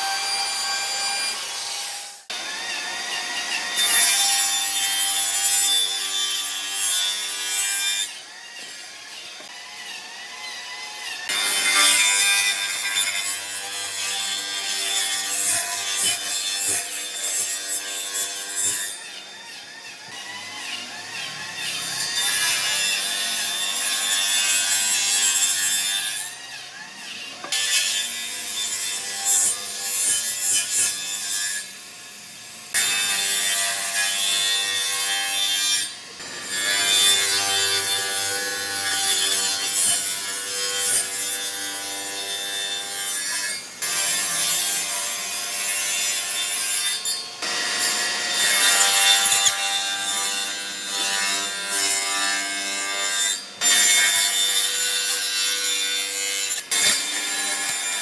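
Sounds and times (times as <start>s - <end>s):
tools cutting and shaping wood: 0.0s - 58.0s.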